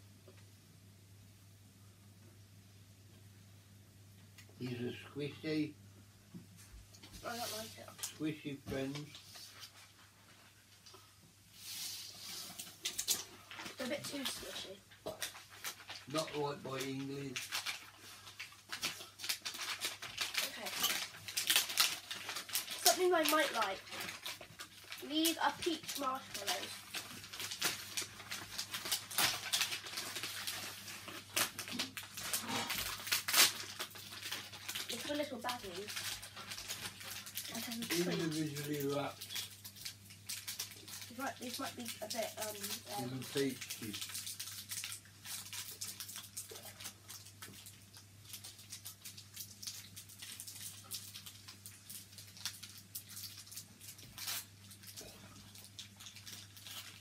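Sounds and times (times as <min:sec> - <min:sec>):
plastic packaging crinkling: 0:07.1 - 0:10.9, 0:11.9 - 0:57.0.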